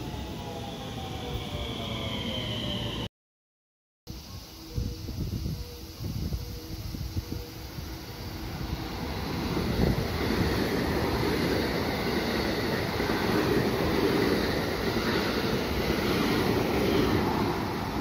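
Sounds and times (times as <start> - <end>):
electric train passing at speed: 0.0 - 3.1, 4.1 - 18.0.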